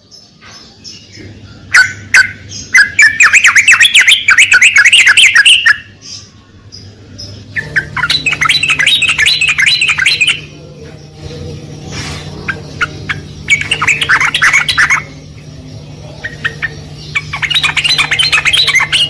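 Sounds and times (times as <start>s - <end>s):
bulbul chattering song: 0.0s - 19.0s.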